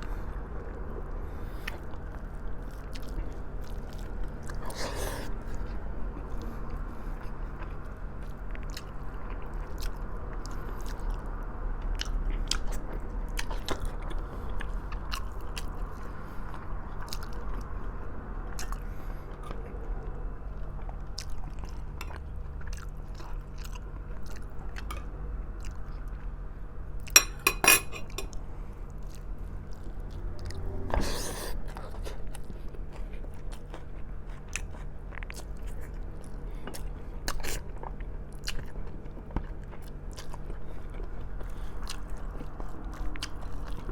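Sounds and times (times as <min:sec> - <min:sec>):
chewing and biting: 0:01.5 - 0:26.3, 0:28.3 - 0:43.9.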